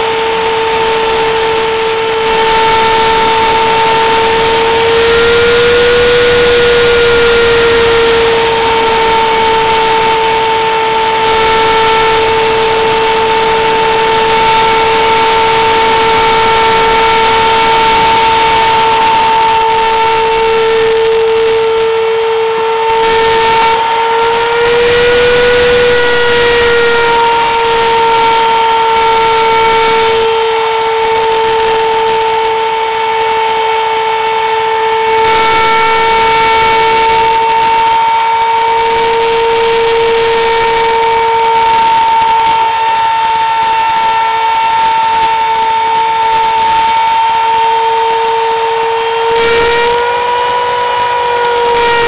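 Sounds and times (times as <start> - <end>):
router spindle high whine: 0.0 - 52.0.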